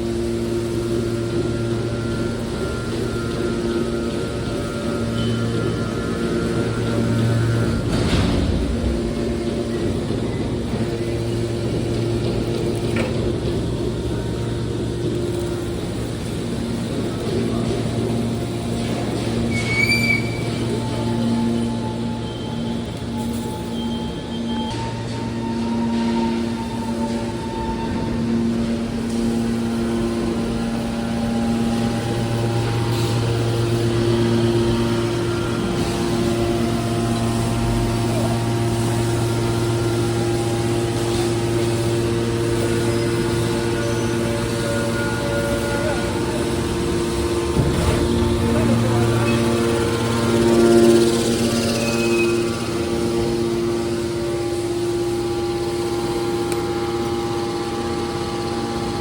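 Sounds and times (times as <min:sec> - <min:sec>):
steady low tones: 0:00.0 - 0:19.5, 0:25.0 - 0:59.0
baler machine humming: 0:00.0 - 0:59.0.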